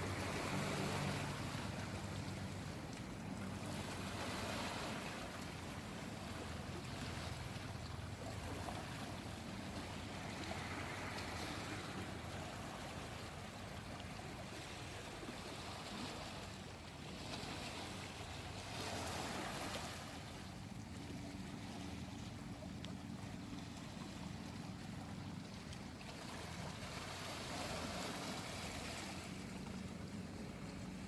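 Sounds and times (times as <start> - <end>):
small sea waves washing in: 0.0 - 31.0.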